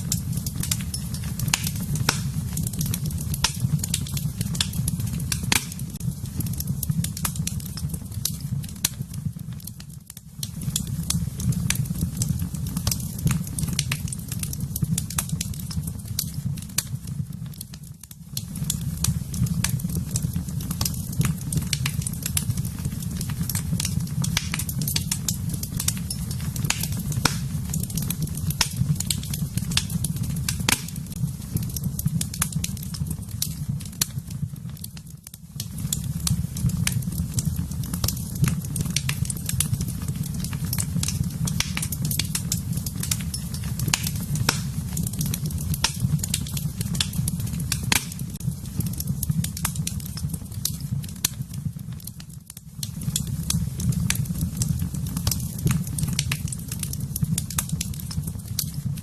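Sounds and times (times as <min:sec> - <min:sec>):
fire crackles and pops: 0:00.0 - 0:59.0
wood fire burning: 0:00.0 - 0:59.0.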